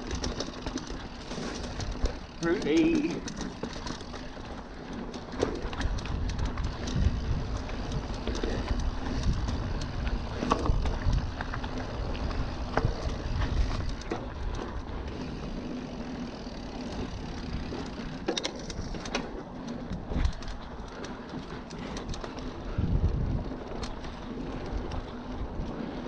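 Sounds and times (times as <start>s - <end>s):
bike knocks and rattles: 0.0s - 26.0s
bike tyres on dirt: 0.0s - 26.0s.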